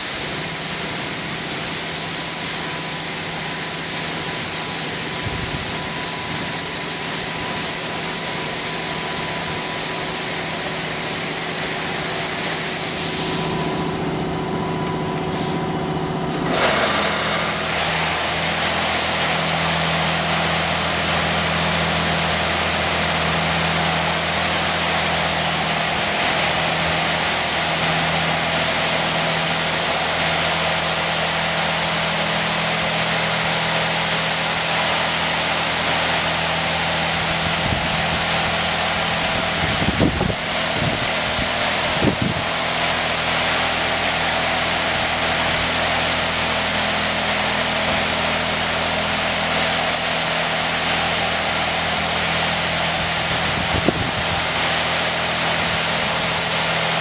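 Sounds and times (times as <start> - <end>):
high-pressure water spray hiss: 0.0 - 13.9, 15.3 - 15.6, 16.5 - 57.0
car wash machine hum: 0.0 - 57.0.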